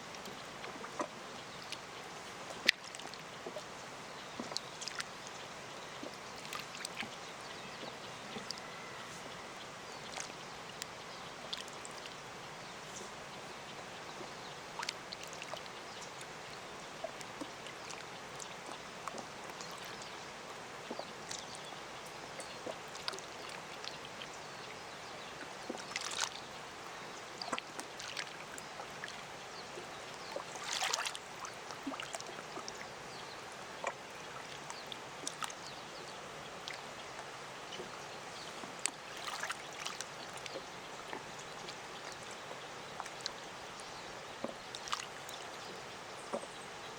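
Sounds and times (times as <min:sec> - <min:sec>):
lake waves lapping at shore: 0:00.0 - 0:46.9.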